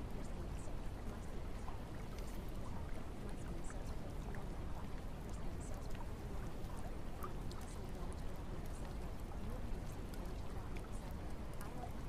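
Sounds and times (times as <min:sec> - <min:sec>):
sharp drips and patters: 0:00.0 - 0:12.0
steady rain falling: 0:00.0 - 0:12.0.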